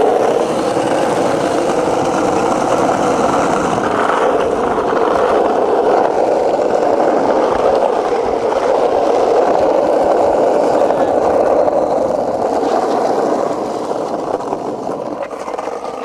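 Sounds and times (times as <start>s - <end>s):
skateboard wheels on concrete: 0.0s - 16.0s.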